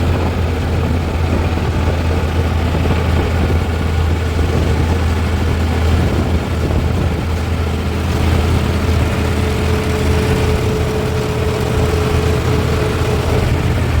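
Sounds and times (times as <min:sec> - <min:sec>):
heavy diesel engine running: 0:00.0 - 0:14.0
thin steady whine: 0:00.0 - 0:14.0.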